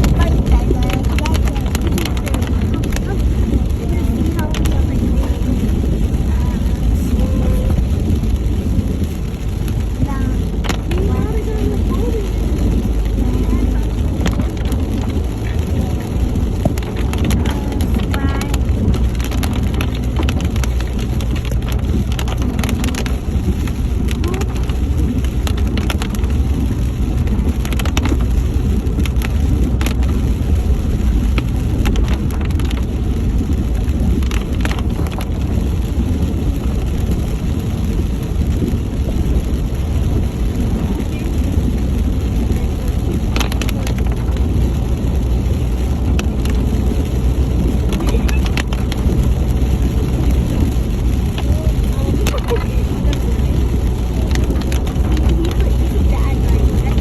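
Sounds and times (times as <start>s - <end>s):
car engine and tyres droning: 0.0s - 57.0s
rain falling on a car: 0.0s - 57.0s.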